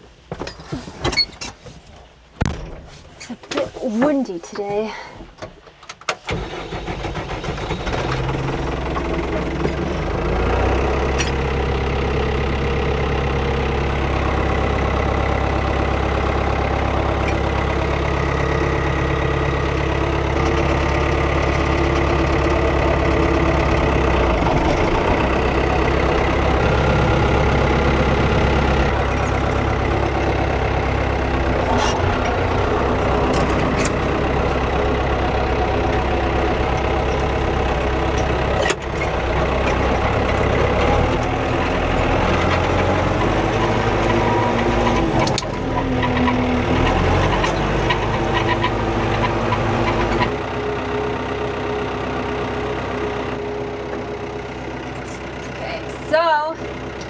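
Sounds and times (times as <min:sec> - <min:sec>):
tractor engine starting and running: 0:00.0 - 0:57.0.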